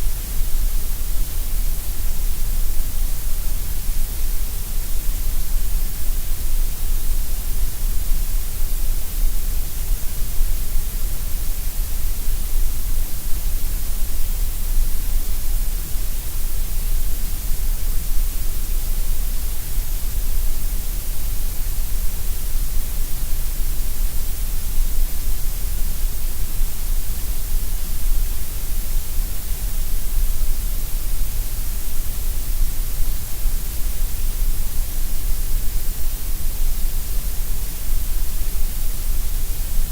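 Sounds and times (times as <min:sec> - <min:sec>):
steady gray noise hiss: 0:00.0 - 0:39.9.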